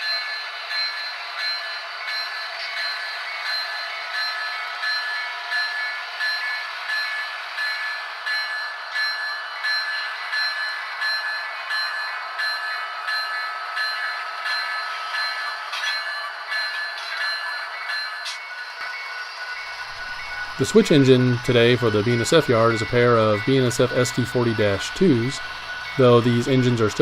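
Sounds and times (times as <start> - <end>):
locomotive bell ringing: 0.0 - 27.0
model locomotive engine noise: 0.0 - 27.0.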